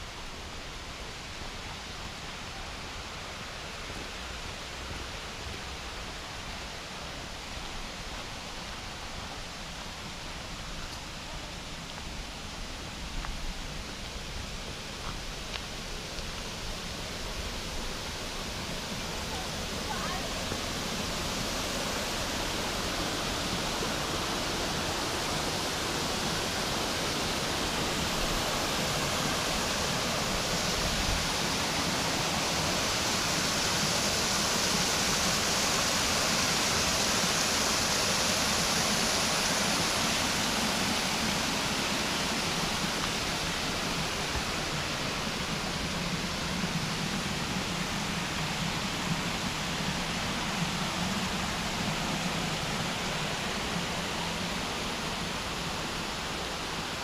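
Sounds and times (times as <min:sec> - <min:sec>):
creek water rushing over rocks: 0:00.0 - 0:57.0.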